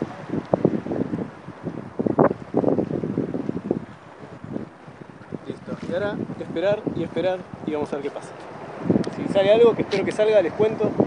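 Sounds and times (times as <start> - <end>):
wind buffeting the microphone: 0.0 - 11.0.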